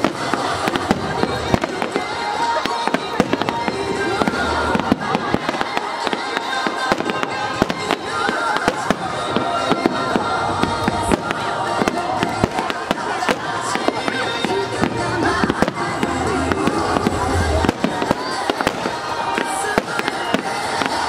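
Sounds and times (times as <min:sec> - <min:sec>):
fireworks bangs and crackles: 0:00.0 - 0:21.0
music: 0:00.0 - 0:21.0.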